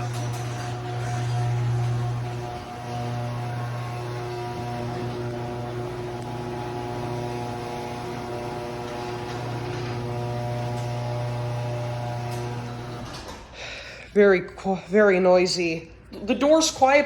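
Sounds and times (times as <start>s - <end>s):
garage door opener motor hum: 0.0s - 13.7s.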